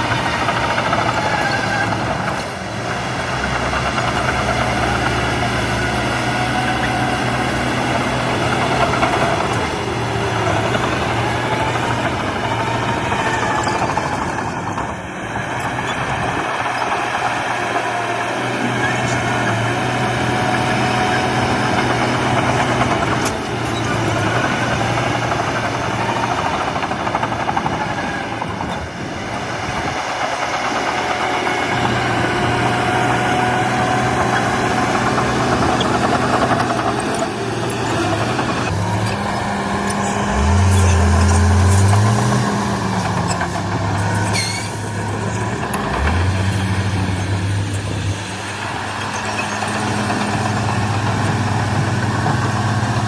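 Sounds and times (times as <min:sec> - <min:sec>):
diesel engine revving: 0:00.0 - 0:53.0
heavy diesel engines running: 0:00.0 - 0:53.0.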